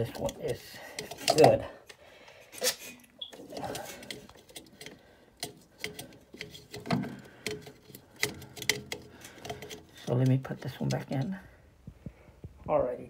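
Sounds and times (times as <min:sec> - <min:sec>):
hands handling plastic relay clicks: 0:00.0 - 0:11.4.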